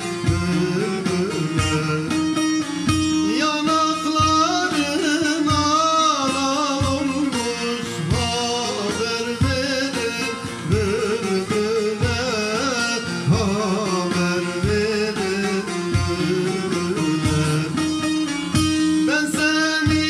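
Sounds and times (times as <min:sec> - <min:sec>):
man singing folk song: 0:00.0 - 0:18.0, 0:19.0 - 0:20.0
plucked long-necked lute: 0:00.0 - 0:20.0.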